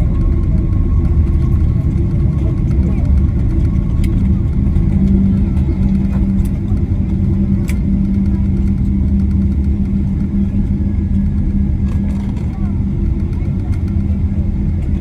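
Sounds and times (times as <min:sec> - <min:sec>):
airliner cabin rumble: 0:00.0 - 0:15.0
faint clicks: 0:00.1 - 0:14.2.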